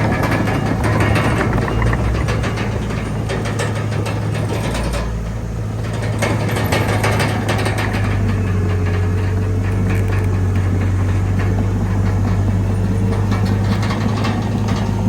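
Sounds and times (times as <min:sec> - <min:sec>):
bulldozer diesel engine running: 0:00.0 - 0:15.0
metallic clanking and rattling: 0:00.0 - 0:15.0.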